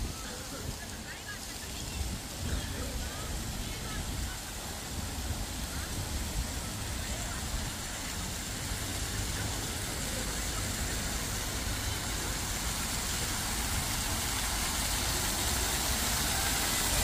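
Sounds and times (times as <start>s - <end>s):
fountain water splashing into pool: 0.0s - 17.0s.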